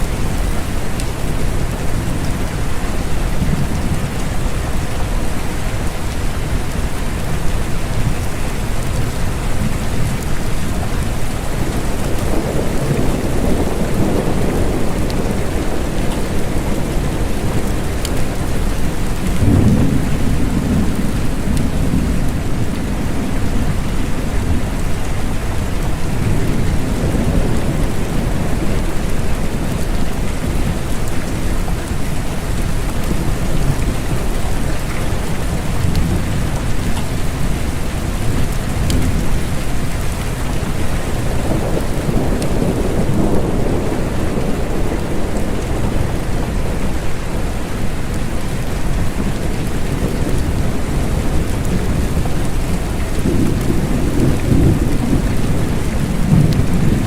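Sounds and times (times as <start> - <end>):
steady rain: 0.0 - 57.0
rolling thunder: 7.3 - 57.0.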